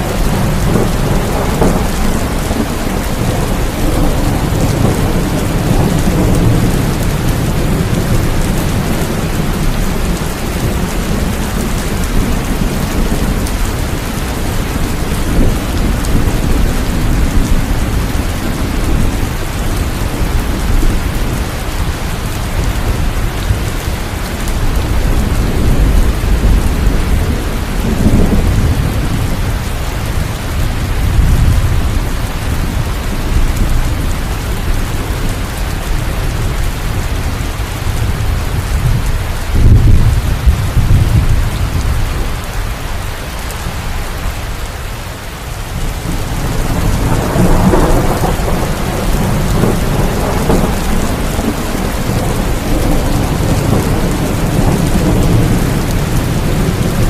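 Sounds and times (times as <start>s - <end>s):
rolling thunder: 0.0s - 42.5s, 45.7s - 57.0s
heavy rain: 0.0s - 57.0s.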